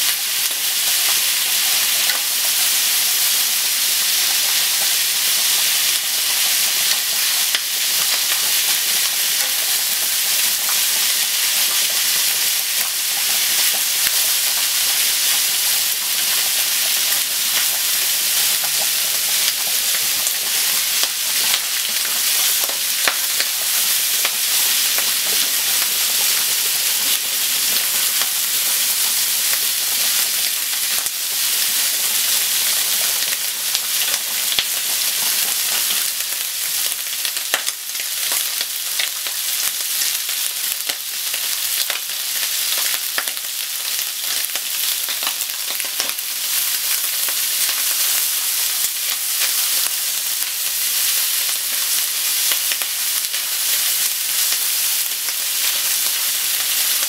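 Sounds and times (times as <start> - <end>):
onion and bacon sizzling: 0.0 - 57.0.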